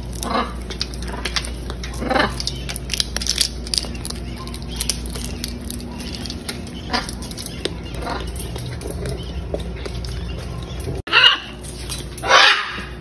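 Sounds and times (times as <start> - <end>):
parrots cracking seed shells: 0.0 - 13.0.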